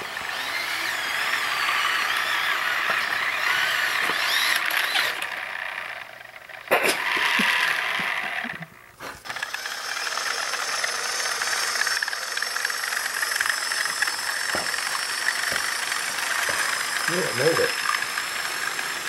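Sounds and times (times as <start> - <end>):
model train motor whirring: 0.0 - 19.0.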